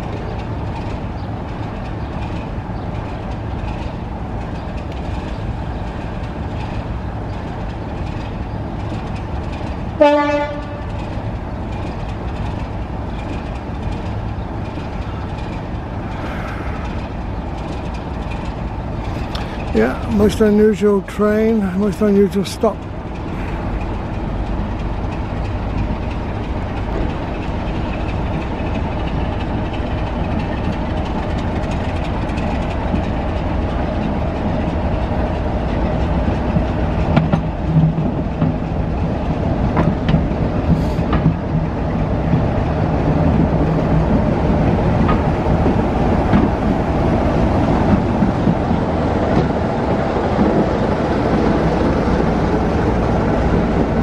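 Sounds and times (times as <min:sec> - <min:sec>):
diesel train passing: 0:00.0 - 0:54.0
low locomotive hum: 0:00.0 - 0:54.0
wheels clicking over rail joints: 0:00.0 - 0:54.0.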